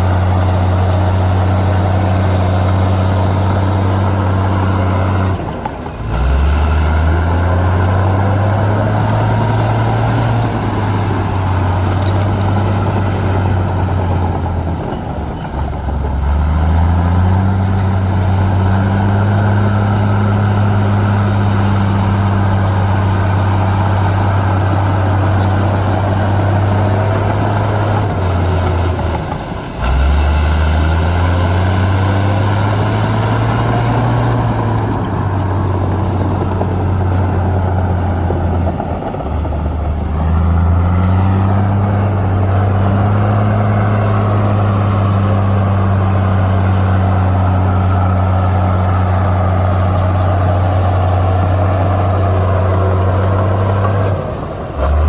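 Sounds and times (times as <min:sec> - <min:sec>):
heavy diesel engine running hard: 0:00.0 - 0:55.0.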